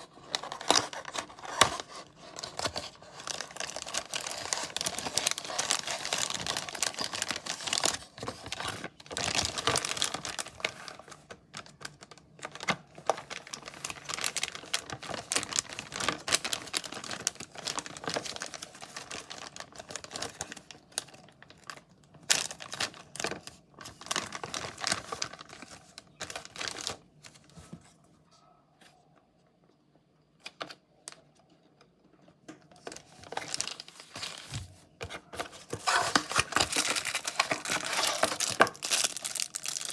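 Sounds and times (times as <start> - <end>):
packaging crinkling and rustling: 0.0 - 28.0, 32.6 - 39.9.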